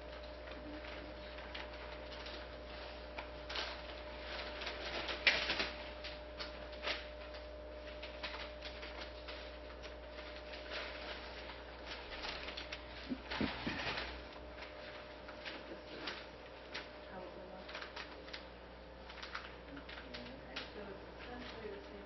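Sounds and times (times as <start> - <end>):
faint electrical hum: 0.0 - 22.0
paper rustling: 0.1 - 22.0.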